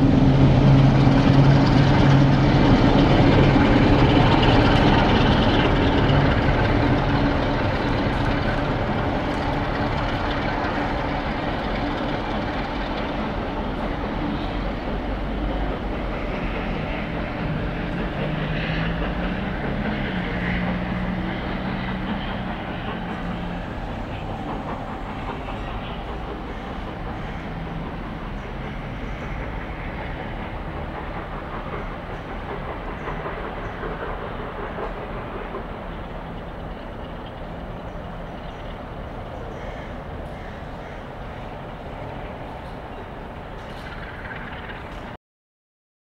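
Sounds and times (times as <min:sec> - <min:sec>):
steady low drone: 0:00.0 - 0:45.2
steam locomotive and coaches rumbling: 0:00.0 - 0:45.2.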